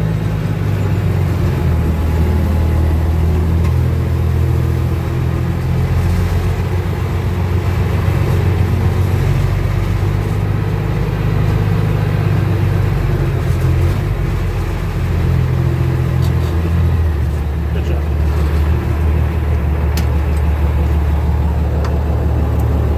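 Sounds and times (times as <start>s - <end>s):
truck diesel engine droning: 0.0s - 22.9s.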